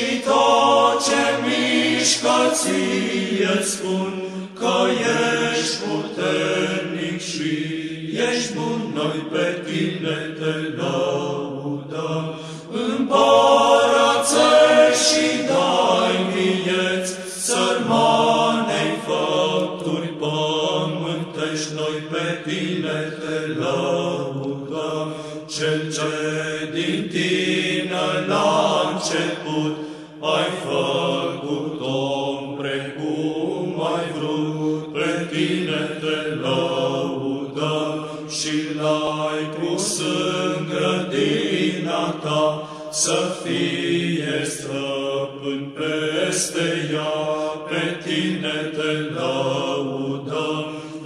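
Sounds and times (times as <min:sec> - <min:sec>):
voices chanting a hymn: 0:00.0 - 0:51.0.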